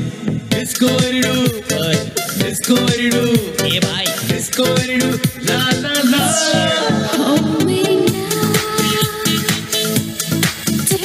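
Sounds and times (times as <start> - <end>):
upbeat dance music: 0.5 - 11.0.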